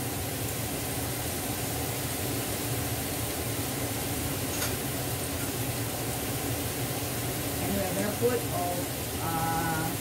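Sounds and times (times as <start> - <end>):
cooker hood fan humming: 0.0 - 10.0.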